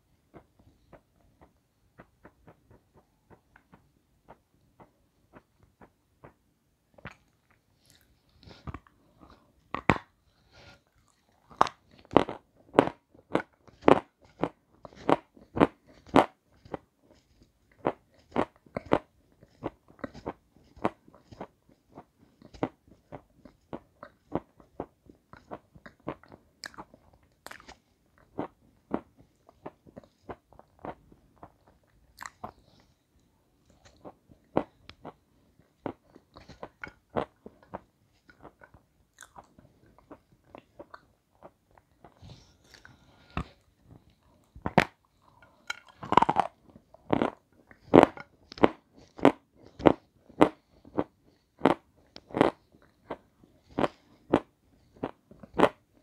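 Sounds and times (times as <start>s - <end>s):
crunchy food chewing: 7.0s - 33.0s, 33.6s - 55.8s.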